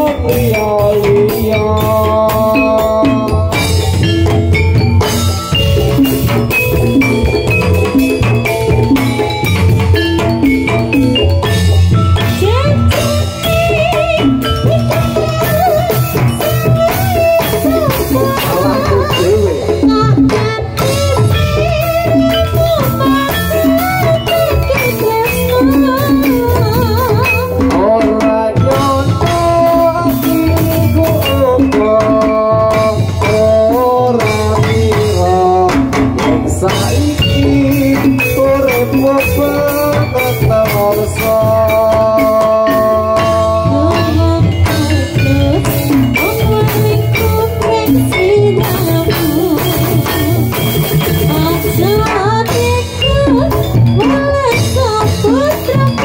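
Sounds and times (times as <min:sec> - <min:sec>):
drums: 0:00.0 - 0:56.0
gamelan music: 0:00.0 - 0:56.0.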